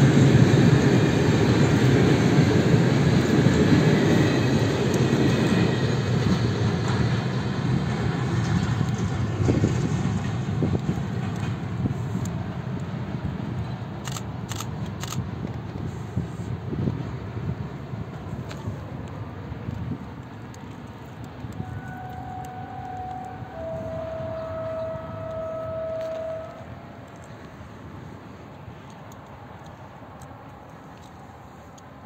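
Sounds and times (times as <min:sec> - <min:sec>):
freight train wheels rumbling on rails: 0:00.0 - 0:32.0.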